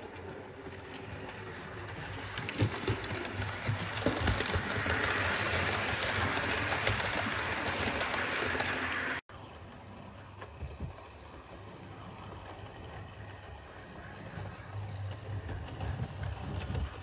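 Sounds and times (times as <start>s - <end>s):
model train motor hum: 0.0s - 17.0s
wheels rolling on track: 0.0s - 17.0s.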